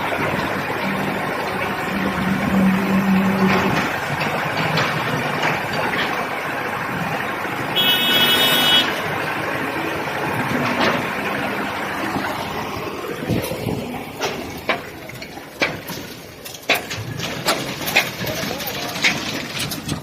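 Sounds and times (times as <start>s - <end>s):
concrete pump truck running: 0.0s - 20.0s.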